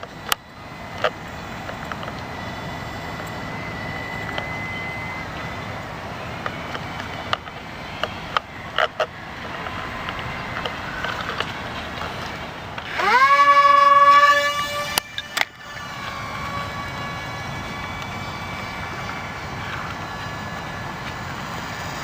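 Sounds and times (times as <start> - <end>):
motor cutoff click: 0.0 - 11.6, 12.2 - 21.2
electric model airplane motor whine: 0.0 - 22.0
outdoor background noise: 0.0 - 22.0.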